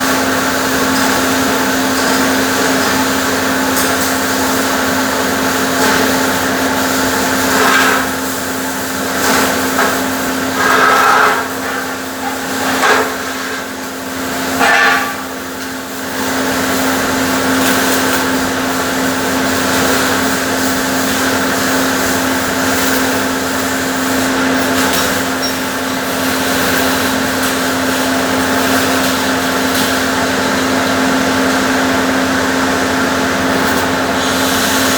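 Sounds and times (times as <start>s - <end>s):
welding machine hum: 0.0s - 34.9s.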